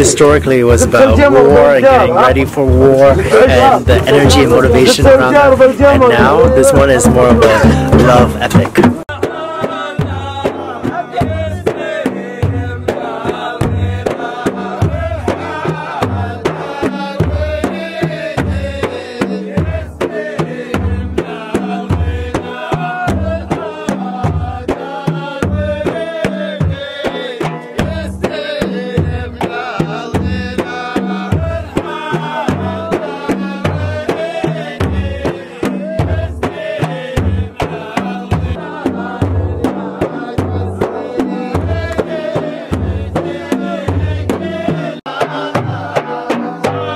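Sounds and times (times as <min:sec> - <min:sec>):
frame drums beating: 0:00.0 - 0:46.9
men singing in chorus: 0:00.0 - 0:46.9.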